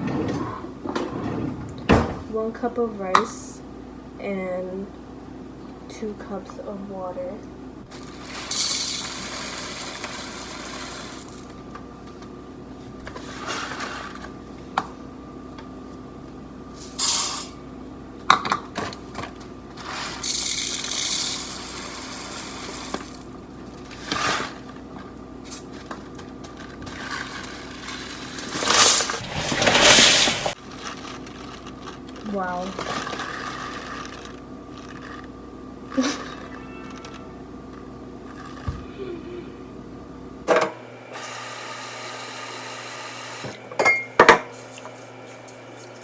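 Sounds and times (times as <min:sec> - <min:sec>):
steady appliance hum: 0:00.0 - 0:46.0.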